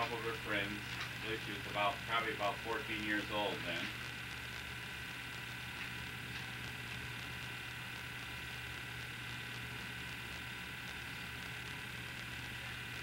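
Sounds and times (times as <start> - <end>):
low electrical hum: 0.0 - 13.0
steady hiss: 0.0 - 13.0.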